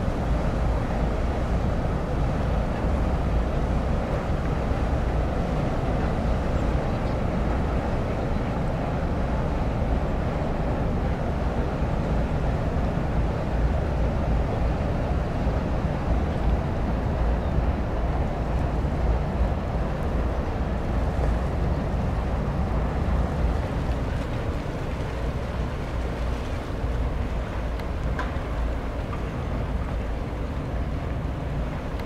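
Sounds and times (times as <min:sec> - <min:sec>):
ferry engines rumbling: 0:00.0 - 0:32.0.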